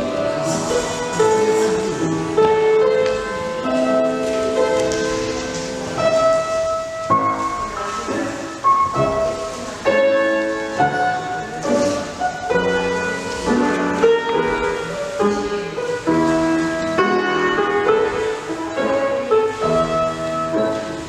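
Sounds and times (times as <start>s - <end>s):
piano melody of held notes: 0.0s - 21.0s.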